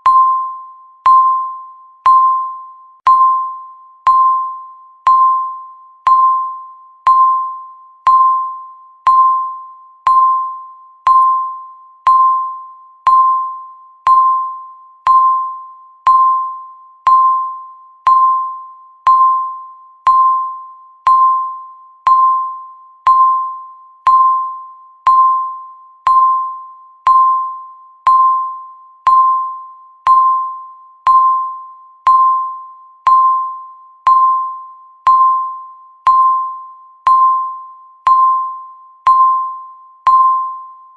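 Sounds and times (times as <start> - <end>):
timer beeps: 0.0 - 40.9.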